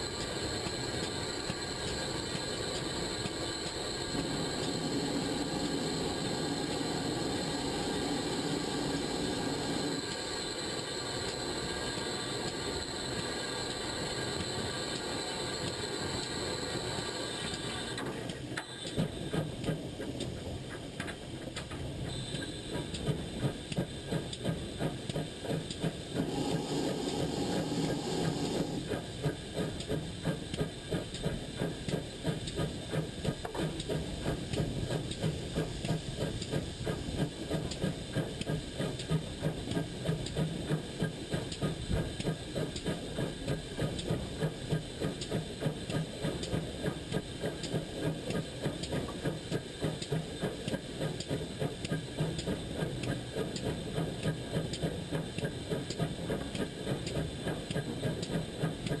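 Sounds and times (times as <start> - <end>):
steam hissing: 0.0 - 20.0, 21.6 - 59.0
steam locomotive exhaust beats: 0.0 - 59.0.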